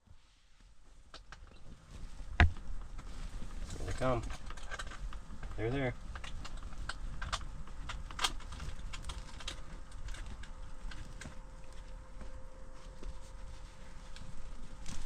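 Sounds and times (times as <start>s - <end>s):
faint steady hum: 0.0s - 15.0s
low steady rumble: 0.0s - 15.0s.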